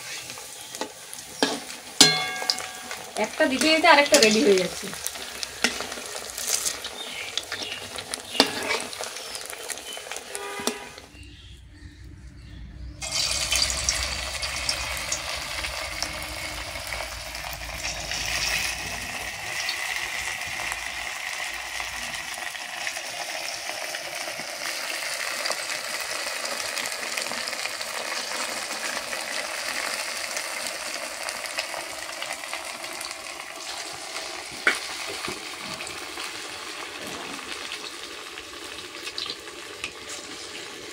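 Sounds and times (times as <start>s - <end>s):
food sizzling in hot oil: 0.0s - 11.1s, 13.0s - 40.9s.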